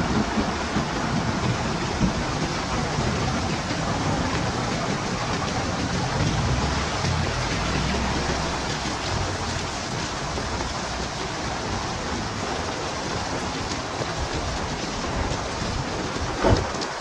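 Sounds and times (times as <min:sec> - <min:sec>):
heavy rain hissing: 0:00.0 - 0:17.0
low wind rumble: 0:00.0 - 0:17.0.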